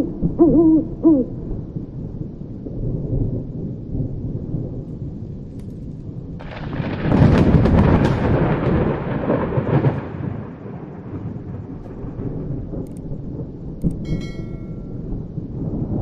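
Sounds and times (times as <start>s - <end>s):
thunder rumbling and cracking: 0.0s - 16.0s.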